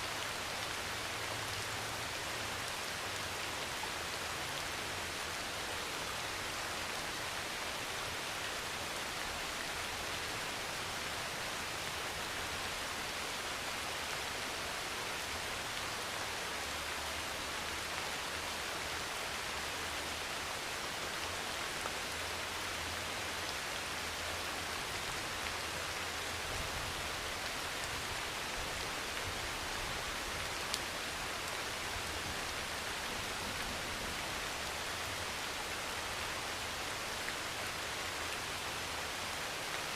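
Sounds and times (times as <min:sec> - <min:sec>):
heavy rain on metal roof: 0:00.0 - 0:39.9.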